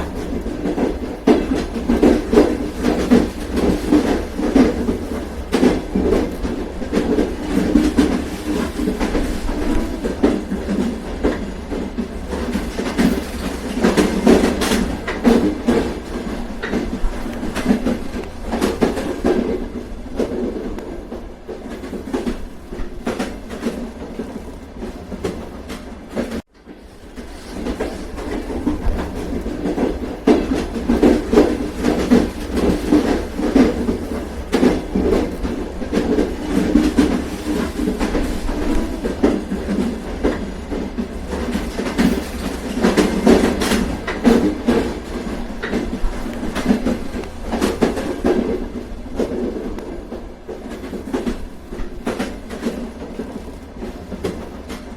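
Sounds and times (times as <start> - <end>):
train rumbling: 0.0 - 54.9
wheels clicking over rail joints: 0.0 - 54.9.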